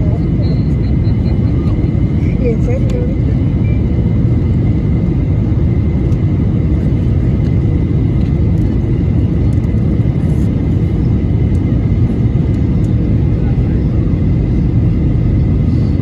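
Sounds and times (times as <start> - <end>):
jet airliner cabin rumble: 0.0 - 16.0.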